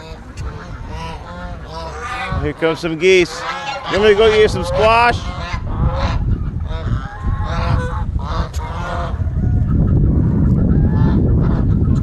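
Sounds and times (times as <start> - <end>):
geese honking: 0.0 - 9.7
low rumbling noise: 0.0 - 12.0.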